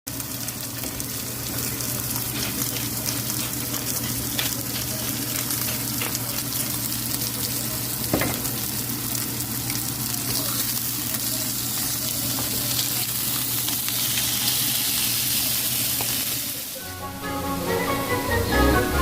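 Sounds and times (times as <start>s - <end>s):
meat sizzling in a frying pan: 0.1s - 16.8s.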